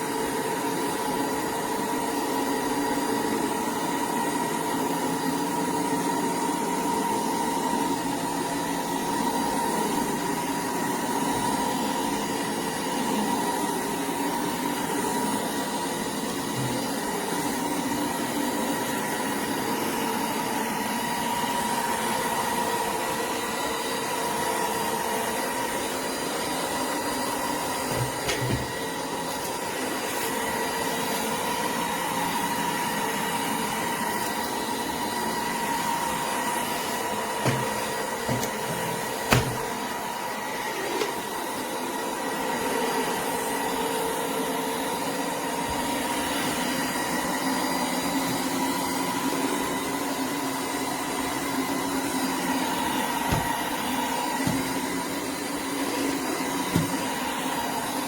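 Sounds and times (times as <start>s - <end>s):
floor vacuum running: 0.0s - 58.0s.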